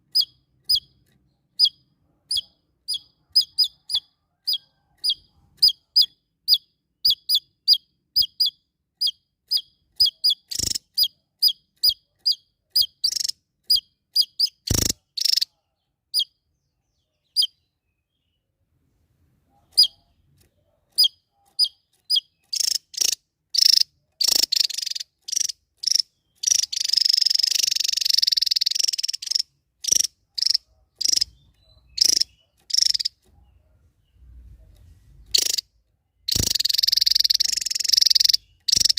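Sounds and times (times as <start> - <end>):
songbird chirping and trilling: 0.0 - 18.6, 19.5 - 38.9.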